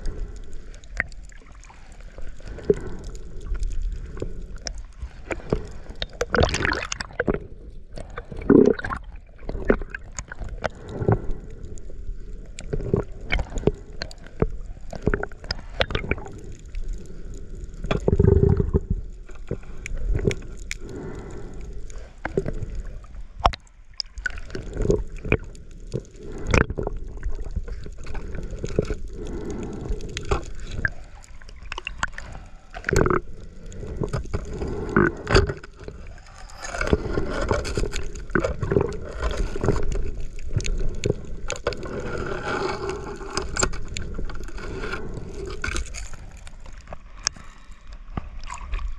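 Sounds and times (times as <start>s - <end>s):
underwater gurgling and sloshing: 0.0s - 48.9s.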